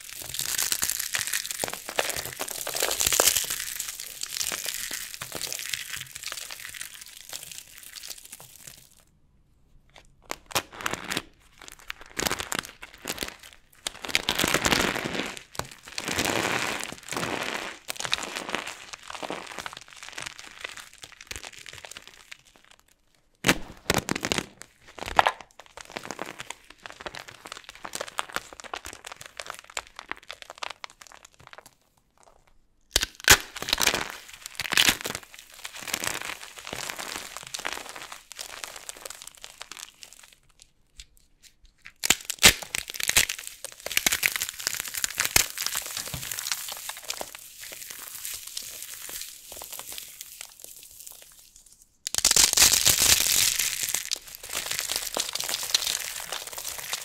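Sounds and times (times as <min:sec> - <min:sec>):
soap boxes cracking and crunching: 0:00.0 - 0:09.0, 0:10.2 - 0:57.0.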